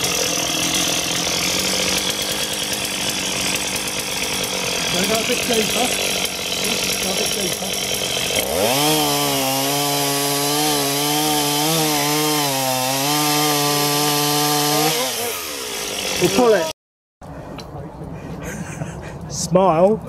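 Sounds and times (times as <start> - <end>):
chainsaw cutting wood: 0.0 - 16.8.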